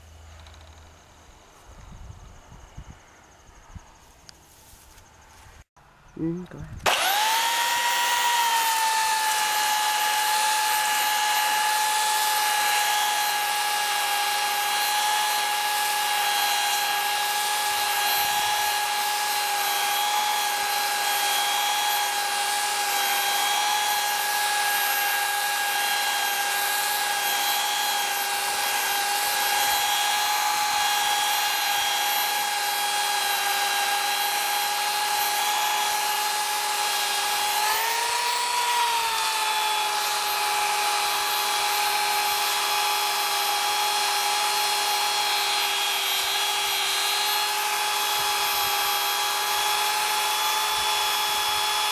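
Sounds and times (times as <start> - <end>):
belt sander motor whine: 6.8 - 51.9
sanding belt rasping on wood: 6.9 - 51.9.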